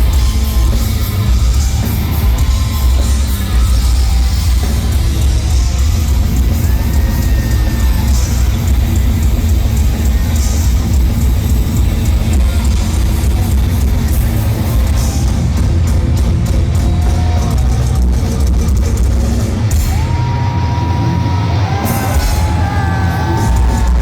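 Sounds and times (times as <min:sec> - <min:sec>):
bass guitar: 0:00.0 - 0:24.0
distorted electric guitars: 0:00.0 - 0:24.0
drum kit: 0:00.0 - 0:24.0.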